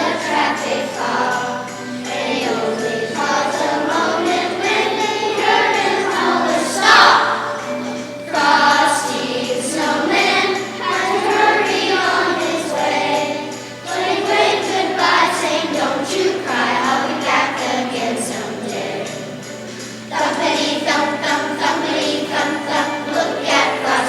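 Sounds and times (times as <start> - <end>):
choir singing: 0.0 - 24.0
jingle bells shaken: 0.0 - 24.0.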